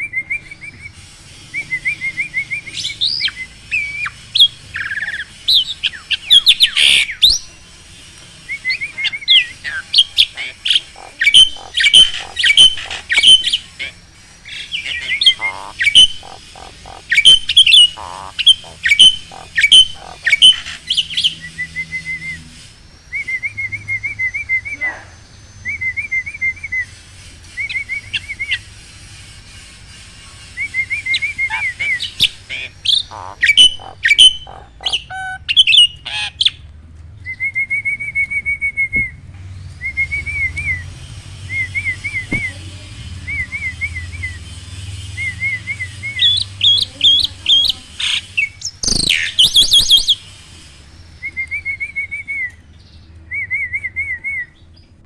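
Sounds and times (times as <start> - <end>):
starlings whistling and chirping: 0.0 - 36.6, 37.2 - 55.0
trilled bird chirping: 1.6 - 21.9, 22.6 - 36.6, 38.9 - 53.2.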